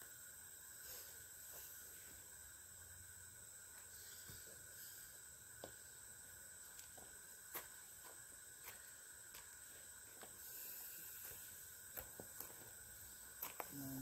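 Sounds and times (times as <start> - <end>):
faint high hum and hiss: 0.0 - 14.0.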